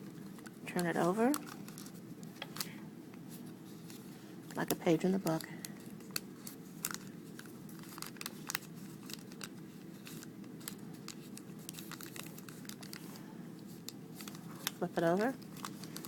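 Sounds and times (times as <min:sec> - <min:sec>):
paper rustling and crinkling: 0:00.0 - 0:02.7, 0:03.3 - 0:16.0
steady low hum: 0:00.0 - 0:16.0.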